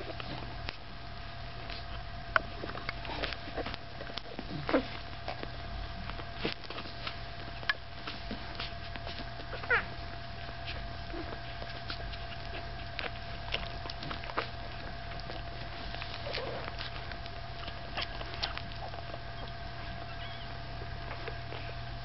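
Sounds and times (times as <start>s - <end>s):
faint steady hum: 0.0s - 22.0s
puppies suckling: 0.0s - 22.0s.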